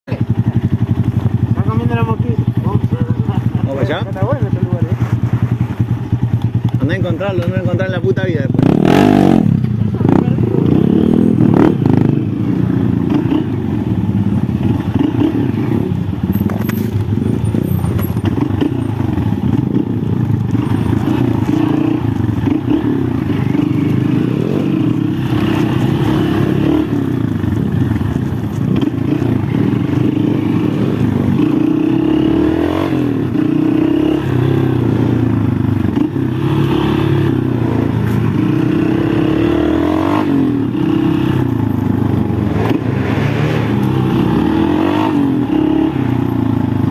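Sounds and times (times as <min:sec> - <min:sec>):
motorcycle engine revving: 0:00.1 - 0:46.9.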